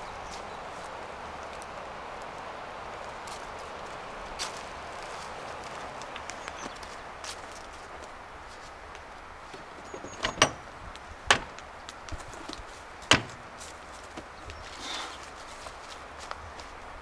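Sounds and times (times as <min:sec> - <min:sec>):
light steady hiss: 0:00.0 - 0:17.0.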